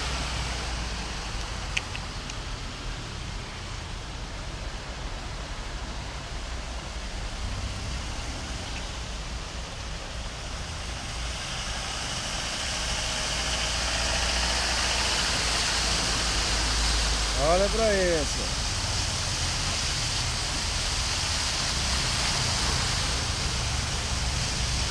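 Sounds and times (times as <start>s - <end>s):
floodwater rushing along street: 0.0s - 24.9s
heavy rain: 0.0s - 24.9s.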